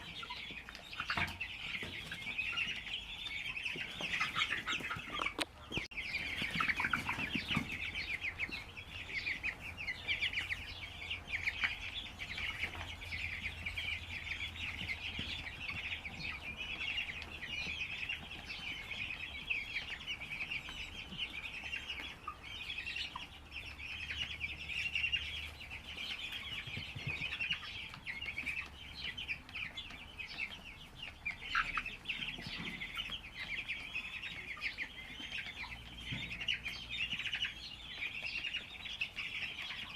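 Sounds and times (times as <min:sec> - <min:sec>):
chickens peeping and clucking: 0:00.0 - 0:39.9.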